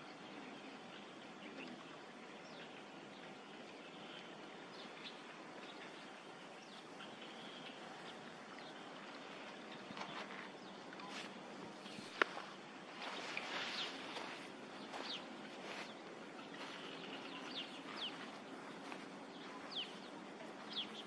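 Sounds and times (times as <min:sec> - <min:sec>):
outdoor background hiss: 0:00.0 - 0:21.0
small birds chirping: 0:00.0 - 0:21.0.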